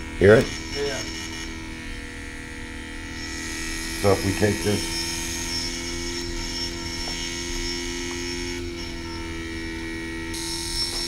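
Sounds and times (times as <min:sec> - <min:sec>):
faint high whine: 0:00.0 - 0:11.0
small motor electric hum: 0:00.0 - 0:11.0.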